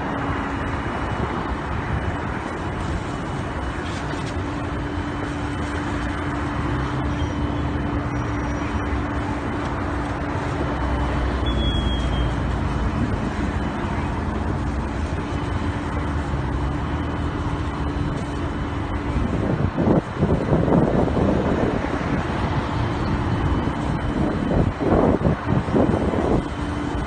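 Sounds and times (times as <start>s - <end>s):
rush of noise: 0.0s - 27.0s
vehicle engine running: 0.0s - 27.0s.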